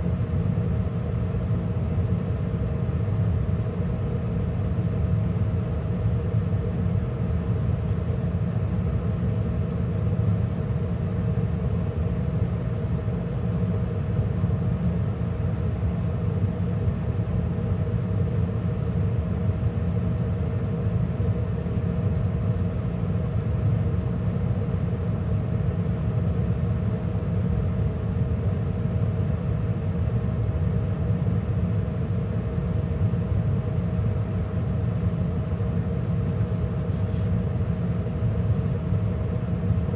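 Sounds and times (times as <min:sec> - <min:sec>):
gas furnace running: 0:00.0 - 0:39.9.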